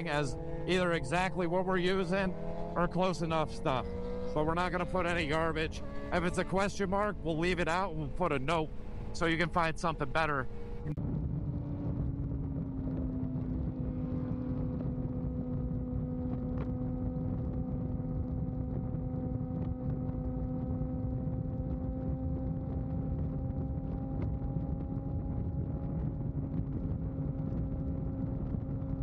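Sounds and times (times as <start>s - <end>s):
motorcycle engine cruising: 0.0s - 29.0s
wind rushing on microphone: 0.0s - 29.0s.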